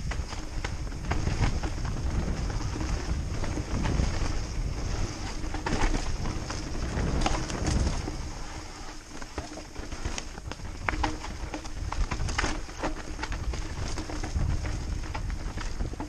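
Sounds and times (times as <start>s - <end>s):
bike knocking and rattling: 0.0s - 16.0s
bike tyres rumbling: 0.0s - 16.0s
wind on camera: 0.0s - 16.0s.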